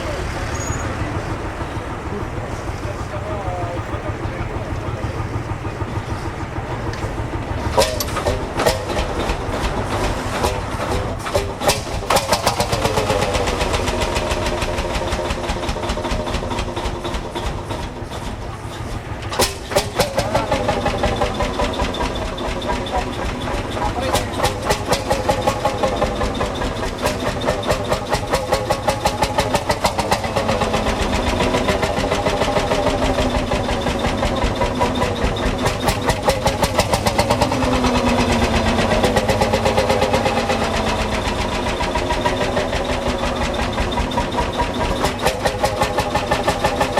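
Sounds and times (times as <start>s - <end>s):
voices: 0.0s - 15.3s, 16.0s - 46.9s
tractor engine running: 0.0s - 46.9s.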